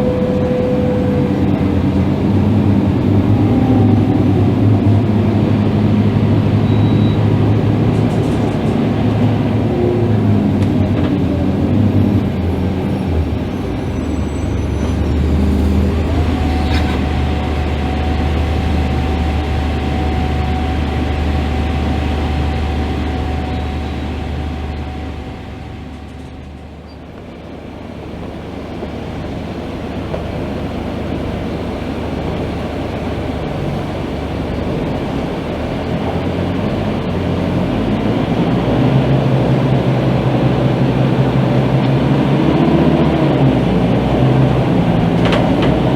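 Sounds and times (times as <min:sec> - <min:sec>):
bus engine drone: 0:00.0 - 0:45.9
steady whine: 0:00.0 - 0:45.9.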